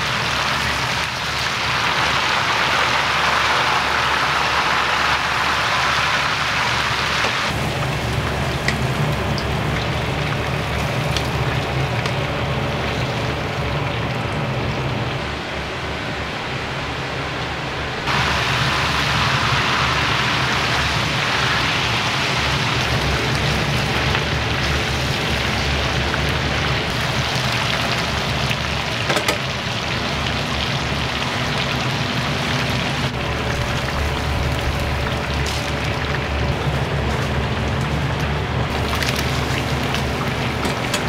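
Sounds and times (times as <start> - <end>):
food sizzling in hot oil: 0.0 - 13.5, 18.1 - 37.2, 38.7 - 41.0
low kitchen rumble: 0.0 - 41.0.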